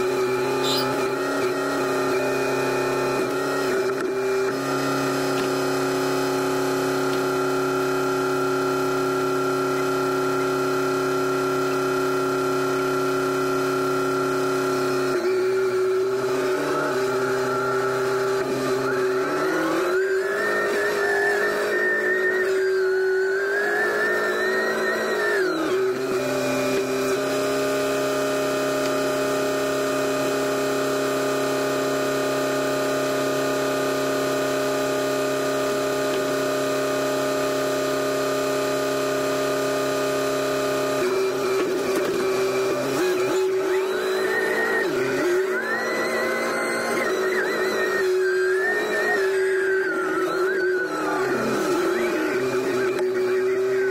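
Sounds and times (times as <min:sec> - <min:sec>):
hydraulic whine: 0:00.0 - 0:53.9
telehandler engine running: 0:00.0 - 0:53.9.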